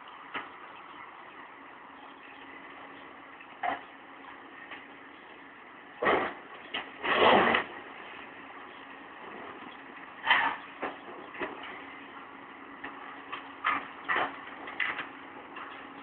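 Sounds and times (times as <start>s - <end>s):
excavator engine drone: 0.0s - 16.0s.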